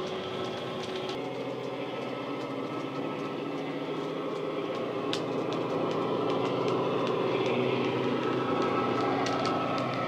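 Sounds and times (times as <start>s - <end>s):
diesel engine sound from speaker: 0.0s - 10.0s
wheels clicking on track: 0.0s - 10.0s.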